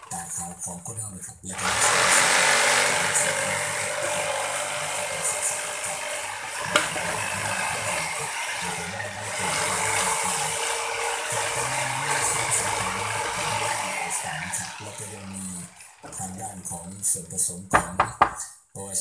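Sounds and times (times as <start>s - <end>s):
electric jigsaw cutting board: 1.5s - 16.9s, 17.7s - 18.4s.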